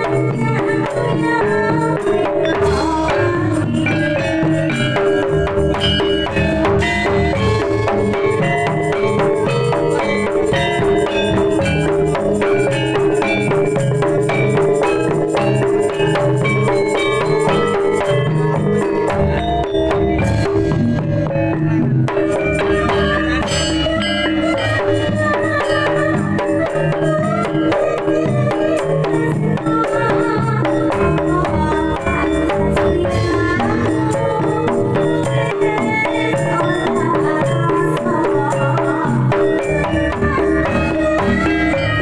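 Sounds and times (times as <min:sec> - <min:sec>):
hand drums playing fast patterns: 0:00.0 - 0:42.0
tuned percussion: 0:00.0 - 0:42.0.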